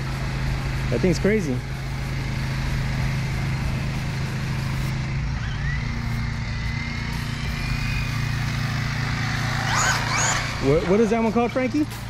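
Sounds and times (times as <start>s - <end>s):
electric motor whining: 0.0s - 12.0s
steady low hum: 0.0s - 12.0s.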